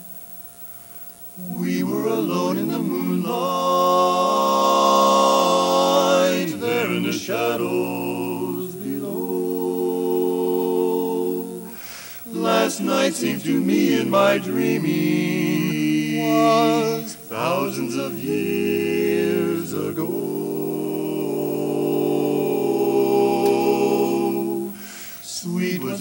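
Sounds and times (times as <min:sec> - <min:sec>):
male a cappella quartet singing: 0:01.4 - 0:26.0.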